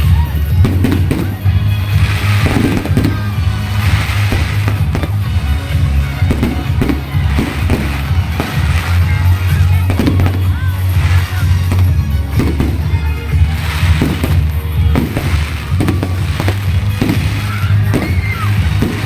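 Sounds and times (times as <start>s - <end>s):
fireworks hissing bursts: 0.0s - 19.0s
fireworks popping and crackling: 0.0s - 19.0s
loud music with heavy bass: 0.0s - 19.0s.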